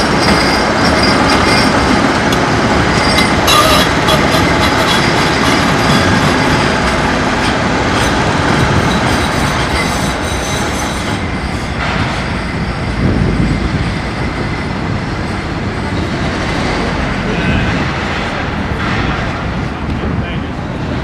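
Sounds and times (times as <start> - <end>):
tram wheel squeal: 0.0 - 19.9
rumble of tram wheels and motors: 0.0 - 21.0.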